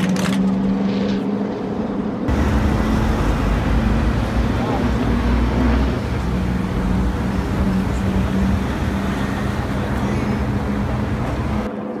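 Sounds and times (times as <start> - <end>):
city street traffic: 0.0 - 12.0
low engine hum: 0.4 - 11.9.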